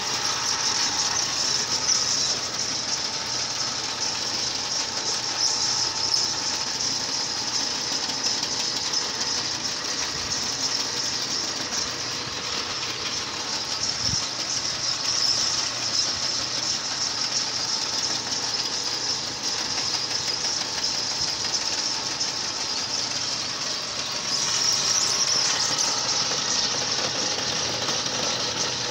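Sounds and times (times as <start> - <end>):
clay mixing machine running: 0.0 - 28.9.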